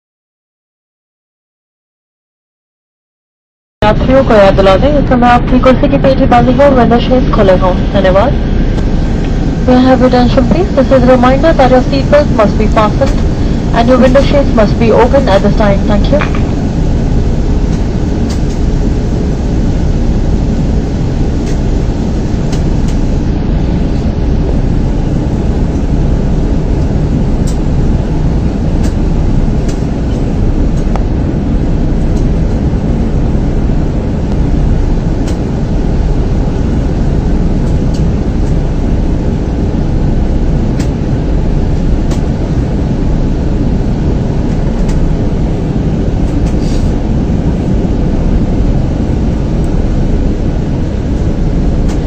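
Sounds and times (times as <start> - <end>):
airliner cabin roar: 3.8 - 52.0.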